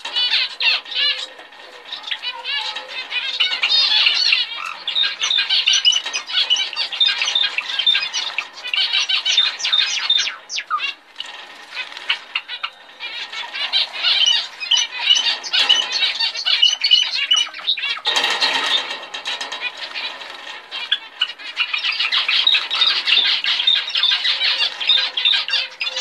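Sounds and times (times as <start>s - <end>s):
finches twittering and chirping: 0.0s - 26.0s.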